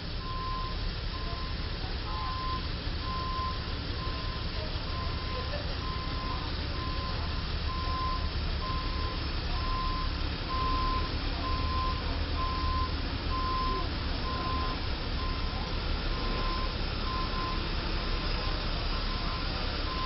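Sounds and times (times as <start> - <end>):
engines and traffic rumble: 0.0 - 20.0
truck reversing alarm beeping: 0.0 - 20.0.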